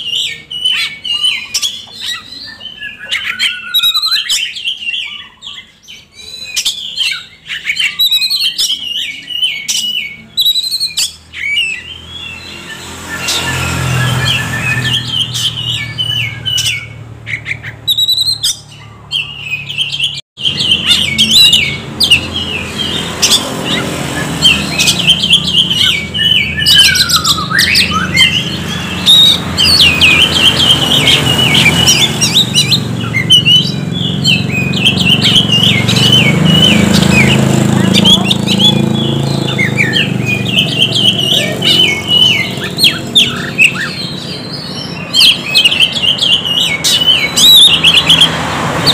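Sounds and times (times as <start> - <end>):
songbird singing: 0.0 - 48.9
bird whistled sweep: 7.5 - 48.9.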